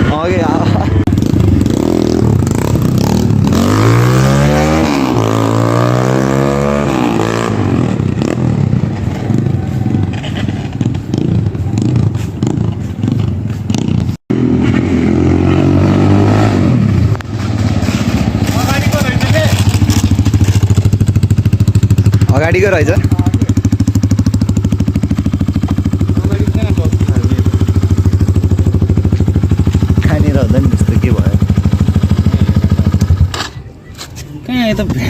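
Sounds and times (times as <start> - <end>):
dirt bike engine revving: 0.0 - 33.4.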